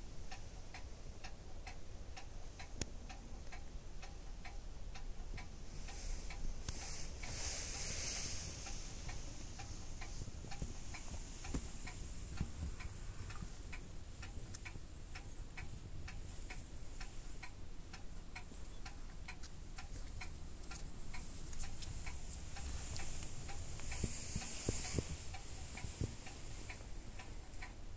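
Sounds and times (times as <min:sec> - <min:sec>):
faint high hiss: 0:00.0 - 0:27.9
light ticking: 0:00.0 - 0:27.9.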